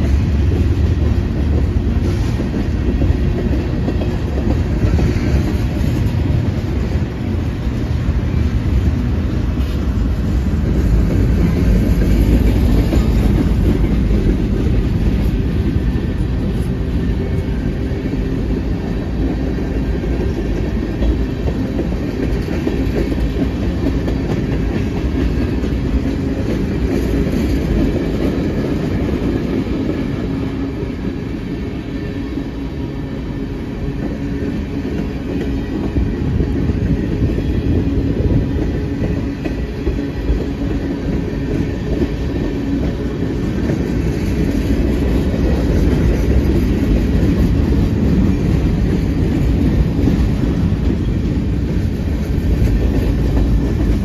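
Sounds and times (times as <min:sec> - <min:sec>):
freight train rumble: 0:00.0 - 0:54.0
train wheels clicking over rail joints: 0:00.0 - 0:54.0.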